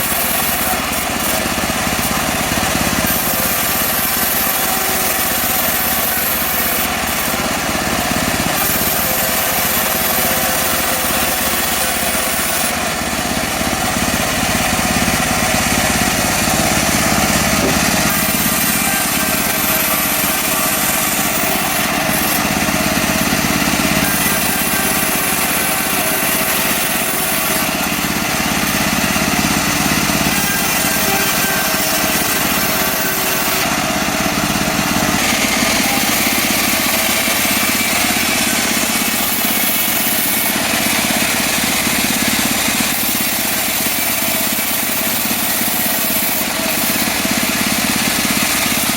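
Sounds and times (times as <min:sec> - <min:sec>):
blade rasping through wood: 0:00.0 - 0:48.9
sawmill engine running: 0:00.0 - 0:48.9.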